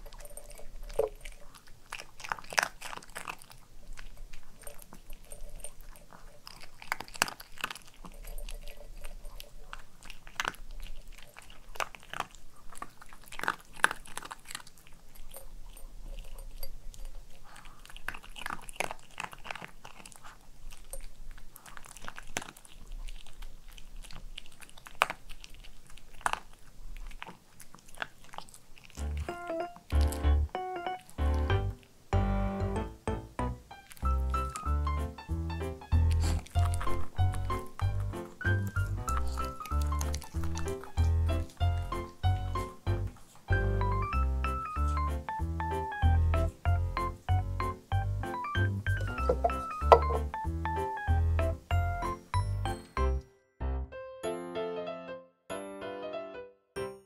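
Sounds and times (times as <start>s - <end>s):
dog crunching kibble: 0.0s - 32.0s, 33.6s - 52.2s.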